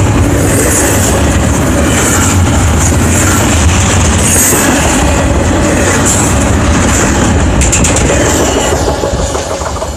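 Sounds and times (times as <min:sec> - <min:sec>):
clicks of train wheels: 0:00.0 - 0:09.9
train wheels rumbling on rail: 0:00.0 - 0:09.9.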